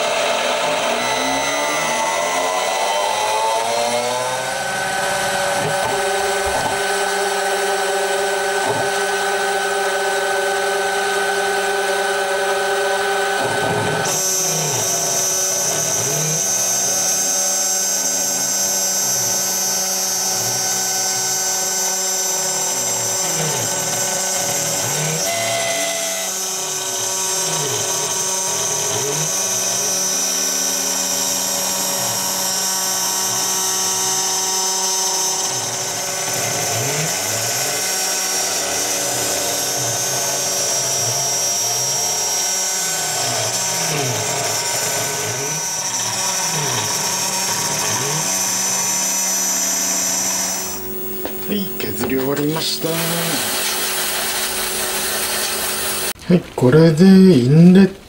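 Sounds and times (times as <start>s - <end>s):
harsh metal cutting tone: 0.0s - 56.2s
milling machine whine: 0.0s - 56.2s.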